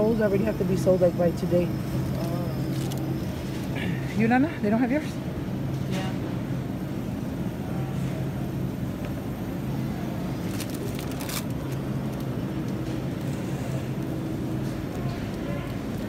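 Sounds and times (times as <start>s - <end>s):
refrigerator hum: 0.0s - 16.0s.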